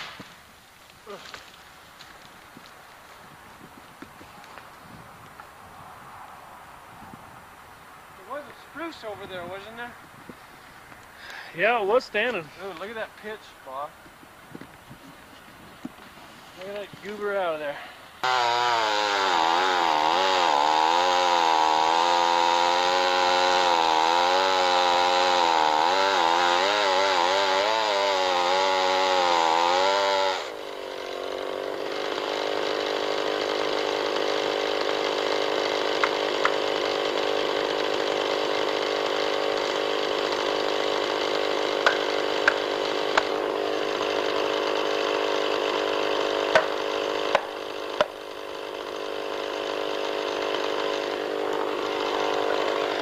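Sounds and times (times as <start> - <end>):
chainsaw cutting and idling: 0.0 - 5.5, 8.2 - 9.9, 16.5 - 53.0.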